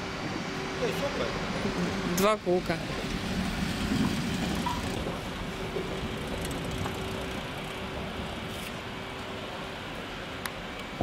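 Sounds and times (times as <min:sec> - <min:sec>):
hall hum and rushing noise: 0:00.0 - 0:11.0.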